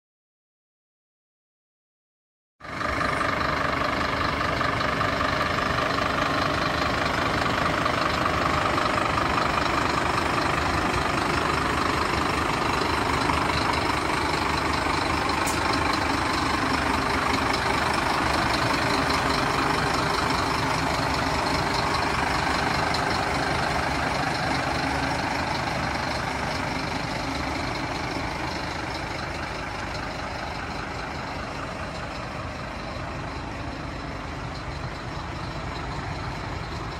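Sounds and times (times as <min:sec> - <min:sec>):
truck diesel engine idling: 0:02.6 - 0:36.9.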